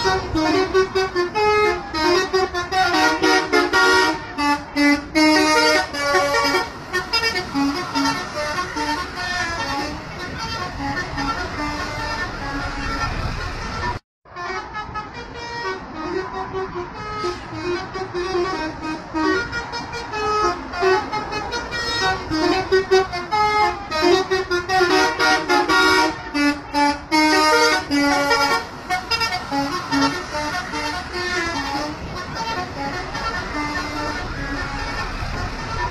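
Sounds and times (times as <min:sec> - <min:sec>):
multi-tone air horn tune: 0:00.0 - 0:35.9.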